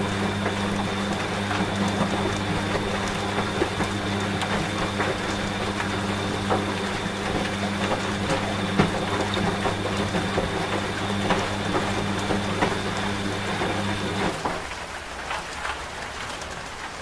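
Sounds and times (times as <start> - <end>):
washing machine motor hum: 0.0 - 15.1
rain ticking: 0.0 - 17.0.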